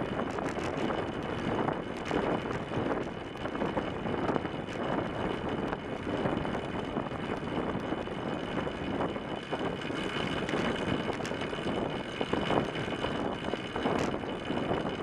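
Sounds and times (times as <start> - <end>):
bicycle tyres on wooden boards: 0.0 - 15.0
rushing wind: 0.0 - 15.0.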